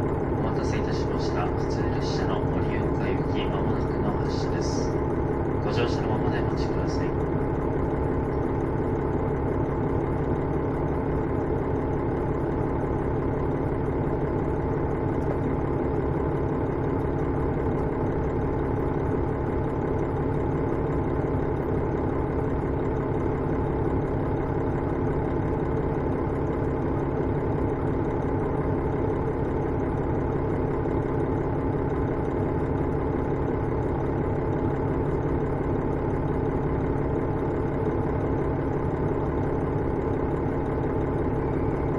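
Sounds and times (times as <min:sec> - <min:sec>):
railcar diesel engine running: 0:00.0 - 0:23.8, 0:26.0 - 0:41.9.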